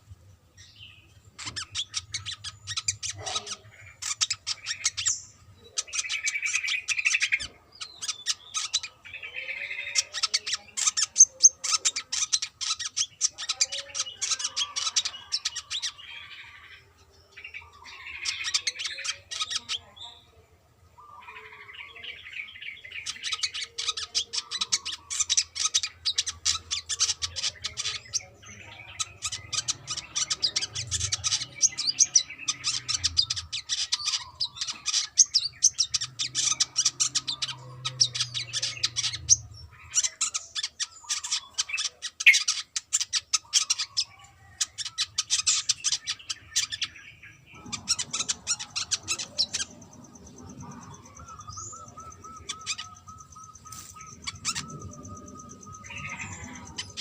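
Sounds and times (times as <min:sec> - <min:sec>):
bird singing high chattering notes: 0:00.0 - 0:57.0.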